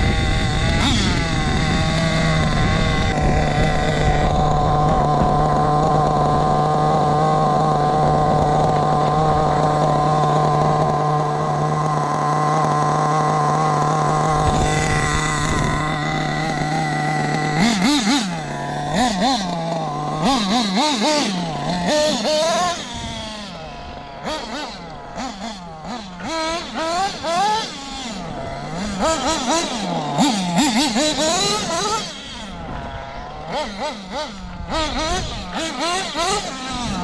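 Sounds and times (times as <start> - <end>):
rc car nitro engine revving: 0.0 - 37.0.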